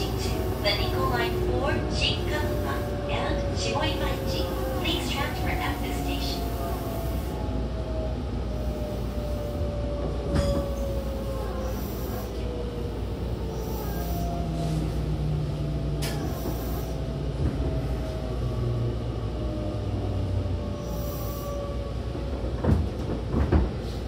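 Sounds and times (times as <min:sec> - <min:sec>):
wheels rumbling on rails: 0:00.0 - 0:24.0.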